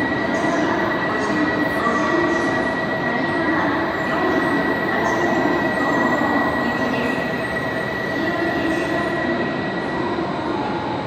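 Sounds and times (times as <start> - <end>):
train rumbling into platform: 0.0 - 11.0.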